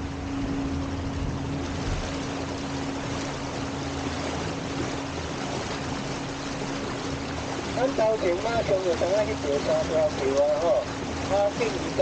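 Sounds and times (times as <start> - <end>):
electric boat motor humming: 0.0 - 12.0
water rushing: 0.0 - 12.0.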